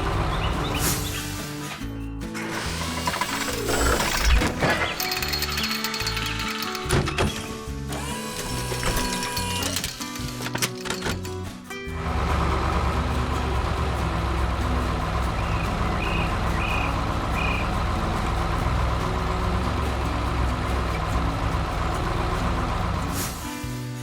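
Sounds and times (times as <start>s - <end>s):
heavy truck engine rumbling: 0.0s - 1.8s, 2.4s - 23.7s.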